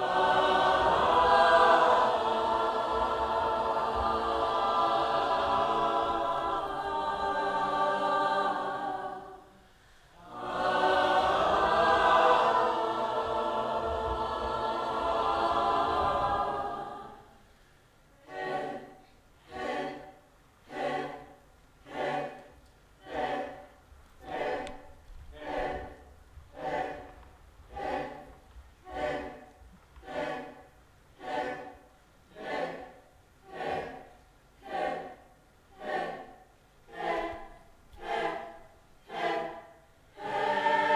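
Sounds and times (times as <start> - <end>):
group singing unaccompanied: 0.0 - 17.5, 18.2 - 40.9.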